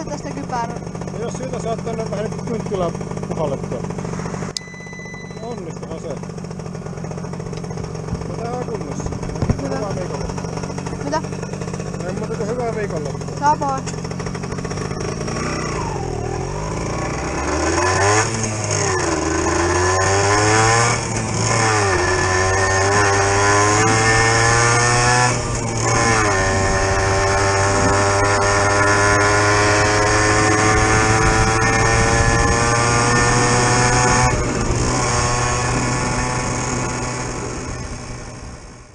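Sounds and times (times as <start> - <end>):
moped engine accelerating: 0.0 - 38.9.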